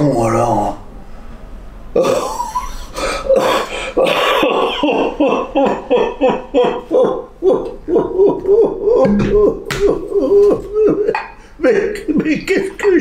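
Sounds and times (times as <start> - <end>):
man sobbing: 2.0 - 13.0.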